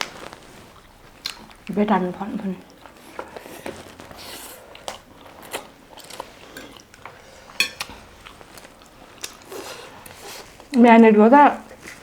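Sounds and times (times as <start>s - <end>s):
person chewing food: 0.0s - 10.8s.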